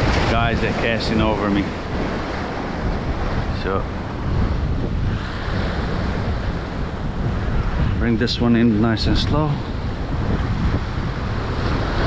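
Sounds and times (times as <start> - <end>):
surf breaking on rocks: 0.0 - 12.0
wind on microphone: 0.0 - 12.0.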